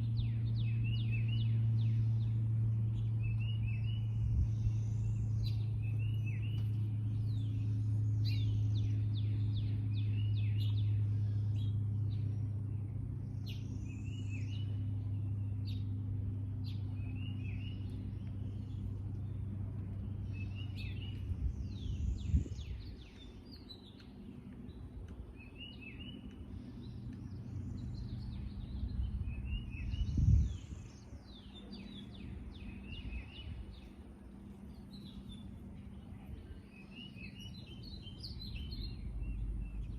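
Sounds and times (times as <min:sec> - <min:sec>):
songbirds singing: 0:00.0 - 0:39.9
steady low hum: 0:00.0 - 0:39.9.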